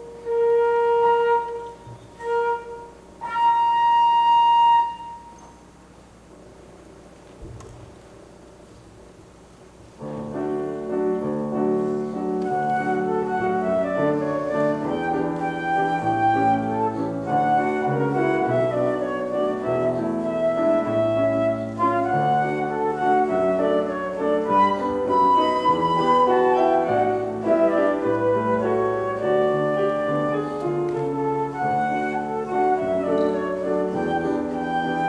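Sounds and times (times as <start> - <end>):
flute playing a melody: 0.0 - 5.4, 12.3 - 35.0
piano accompaniment: 0.0 - 5.7, 7.9 - 35.0.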